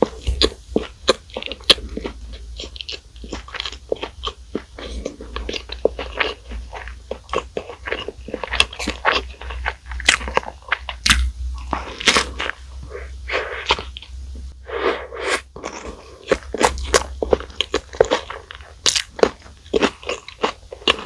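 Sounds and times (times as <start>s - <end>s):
chewing crispy food: 0.0s - 21.0s.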